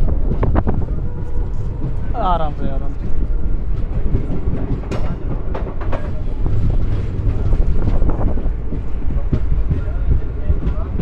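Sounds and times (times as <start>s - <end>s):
train rumbling on track: 0.0s - 11.0s
wheels clacking over rail joints: 0.0s - 11.0s.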